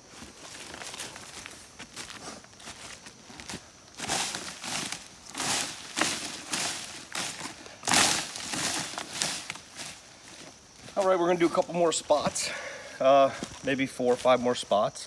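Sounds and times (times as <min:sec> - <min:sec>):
dry leaves crunching: 0:00.2 - 0:12.4.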